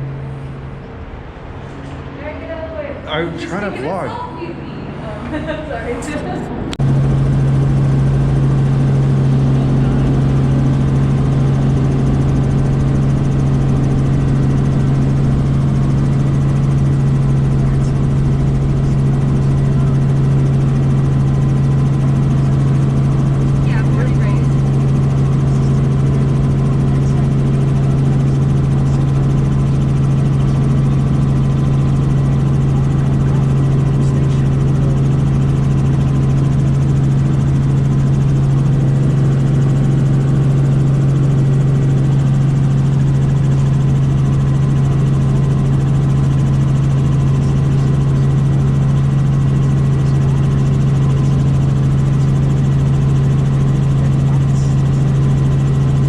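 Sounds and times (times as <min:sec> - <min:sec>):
helicopter turbine and rotor drone: 0:00.0 - 0:56.0.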